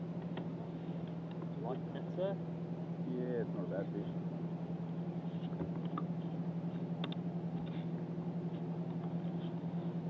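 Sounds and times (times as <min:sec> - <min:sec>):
electric trolling motor humming: 0:00.0 - 0:10.0.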